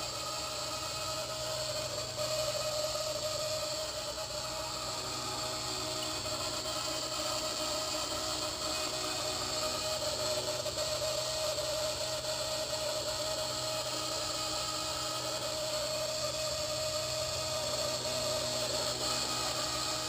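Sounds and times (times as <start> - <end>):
rc helicopter screeching: 0.0 - 20.0.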